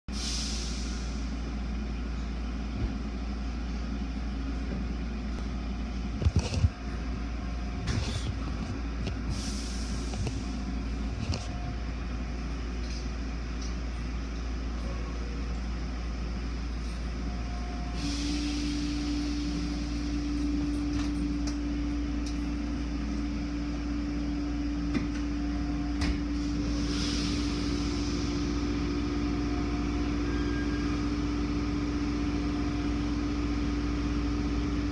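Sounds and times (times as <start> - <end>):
car wash machinery rumble: 0.6 - 34.9.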